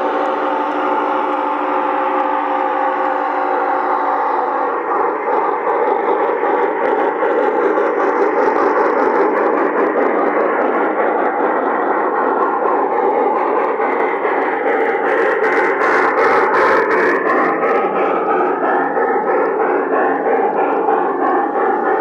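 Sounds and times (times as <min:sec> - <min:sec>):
model train running: 0:00.0 - 0:22.0.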